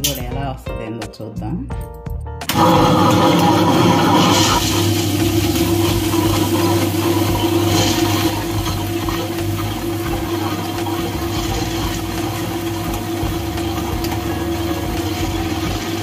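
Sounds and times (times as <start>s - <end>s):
wet grinder motor humming: 2.5s - 16.0s.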